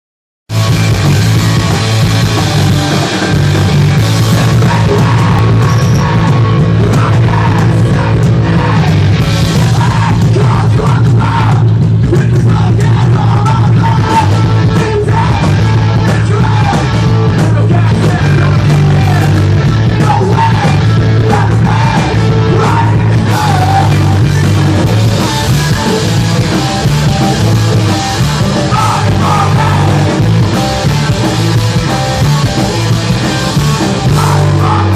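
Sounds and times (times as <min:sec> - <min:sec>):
rock band playing live: 0:00.5 - 0:34.9.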